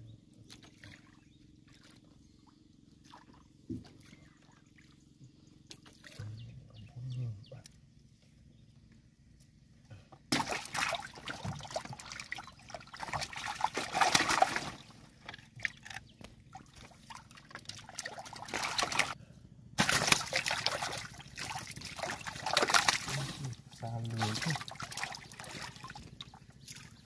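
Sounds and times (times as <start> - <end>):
water splashing and sloshing: 0.3 - 6.4, 10.2 - 19.2, 19.8 - 27.0.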